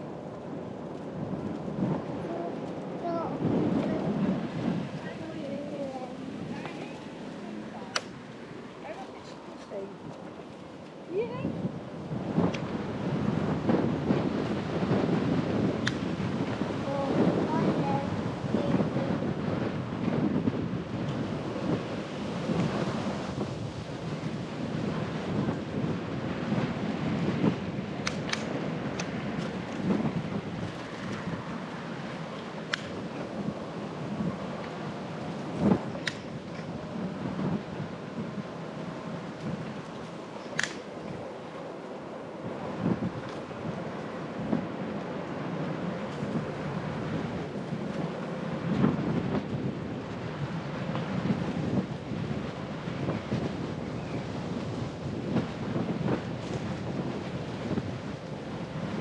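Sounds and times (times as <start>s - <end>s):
bicycle tyre noise on path: 0.0s - 59.0s
wind buffeting microphone: 0.0s - 59.0s.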